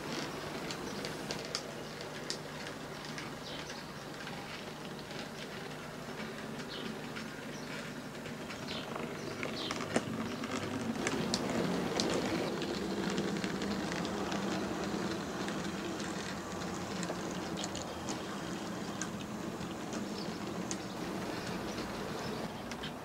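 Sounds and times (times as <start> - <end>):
model locomotive humming: 0.0 - 23.0
wagon wheels clicking on track: 0.0 - 23.0.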